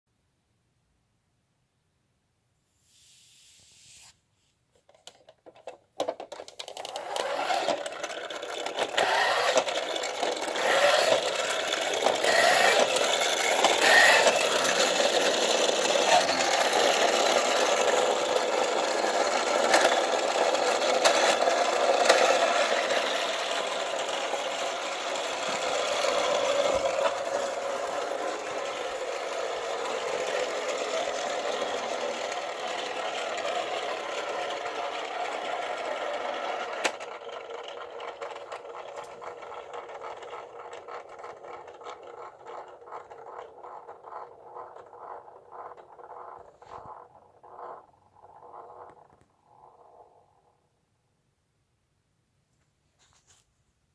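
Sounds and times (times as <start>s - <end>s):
clockwork motor whirring: 6.6s - 50.6s.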